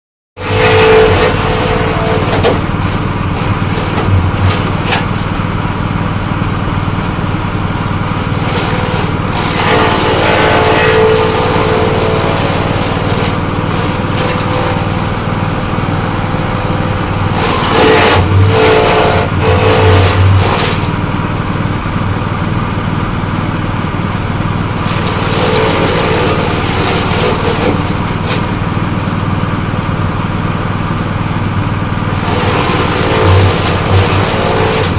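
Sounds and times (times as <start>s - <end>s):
grass chopper engine running: 0.4s - 34.9s.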